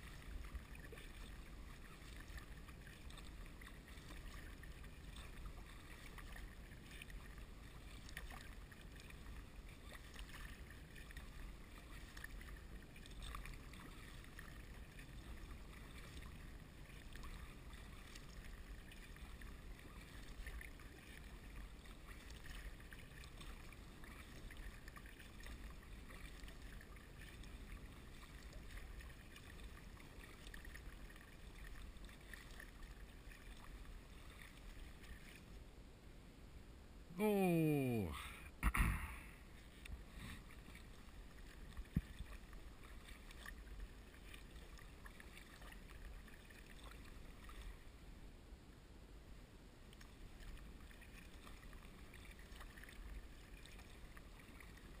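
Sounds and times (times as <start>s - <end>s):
kayak paddle splashes: 0.0s - 35.7s, 38.7s - 47.9s, 49.8s - 55.0s
low steady hiss: 0.0s - 55.0s.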